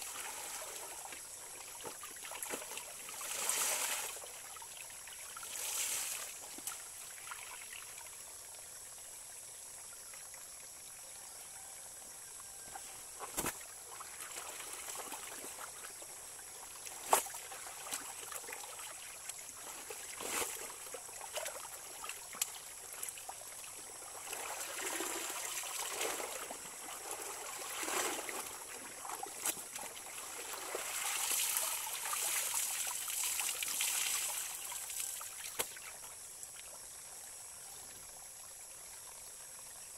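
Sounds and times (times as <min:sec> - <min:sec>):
stream running over stones: 0:00.0 - 0:11.0, 0:12.5 - 0:39.9.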